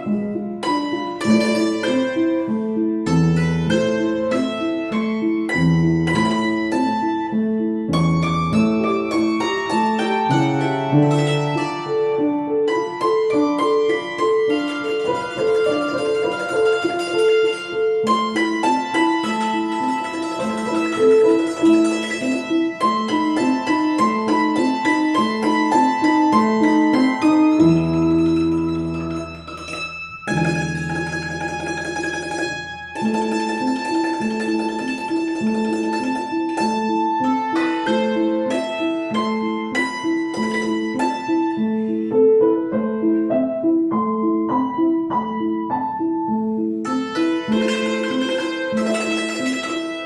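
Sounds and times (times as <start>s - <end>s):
string instrument music: 0.0s - 50.0s.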